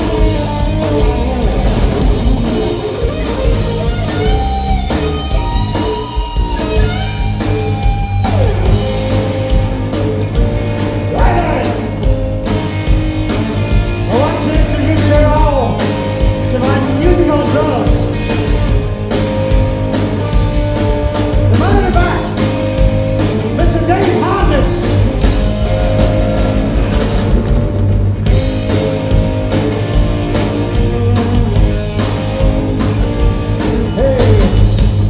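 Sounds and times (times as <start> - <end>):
bending lead guitar line: 0.0 - 35.0
live rock band instrumental: 0.0 - 35.0.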